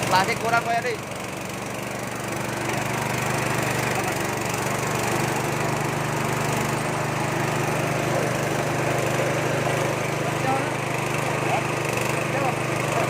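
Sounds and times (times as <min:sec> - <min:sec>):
engine humming: 0:00.0 - 0:13.0
mill grinding: 0:00.0 - 0:13.0.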